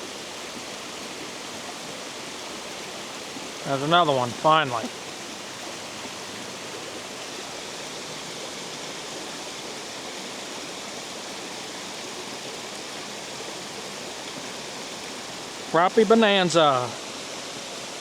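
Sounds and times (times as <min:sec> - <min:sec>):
water rushing over spillway: 0:00.0 - 0:18.0.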